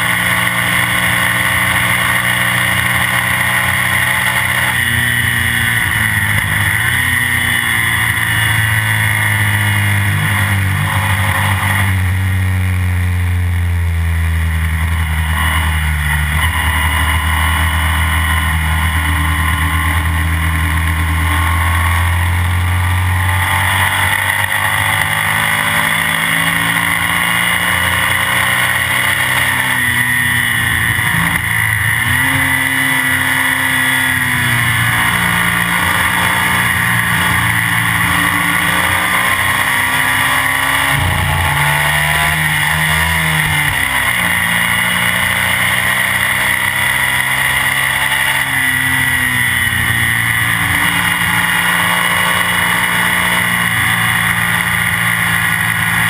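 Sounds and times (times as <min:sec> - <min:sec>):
racing motorcycle engine: 0:00.0 - 0:56.0
wind and road rush: 0:00.0 - 0:56.0.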